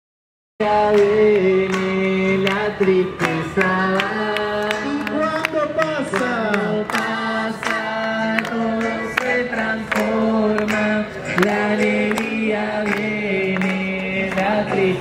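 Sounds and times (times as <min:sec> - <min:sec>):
group singing religious song: 0:00.6 - 0:15.0
hand claps: 0:00.8 - 0:15.0.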